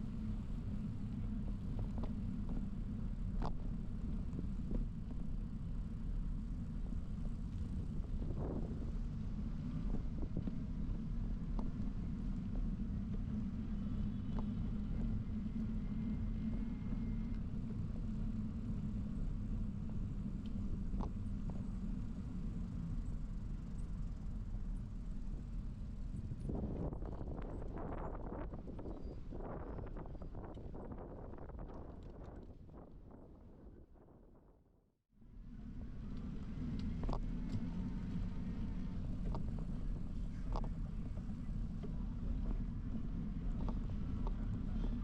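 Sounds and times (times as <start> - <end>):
city traffic rumble: 0.0 - 34.5, 35.2 - 45.0
wind and riding noise: 0.0 - 34.6, 35.3 - 45.0.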